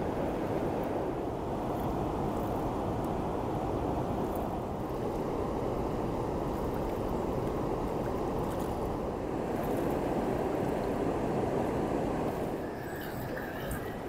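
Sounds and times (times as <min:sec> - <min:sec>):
water rushing over weir: 0:00.0 - 0:14.0.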